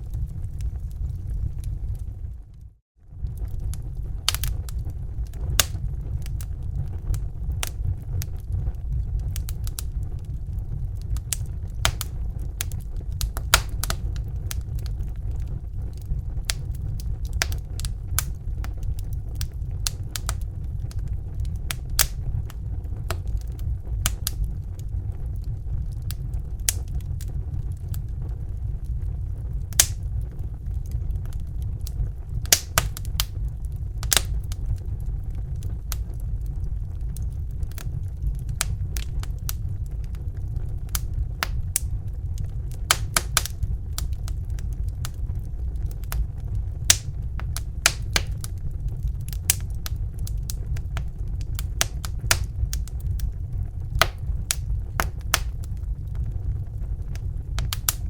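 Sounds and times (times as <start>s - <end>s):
fire crackling and popping: 0.0s - 58.0s
low rumble: 0.0s - 58.0s.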